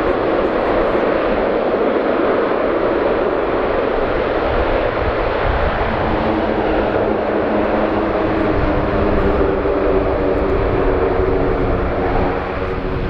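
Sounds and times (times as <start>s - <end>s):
turboprop propeller drone: 0.0s - 13.0s.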